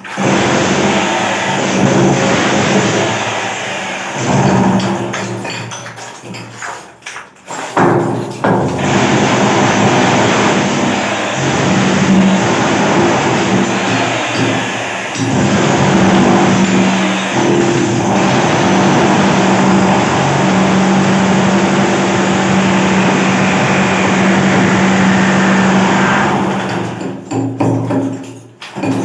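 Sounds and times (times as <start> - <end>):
power tool chipping tiles: 0.0 - 29.0.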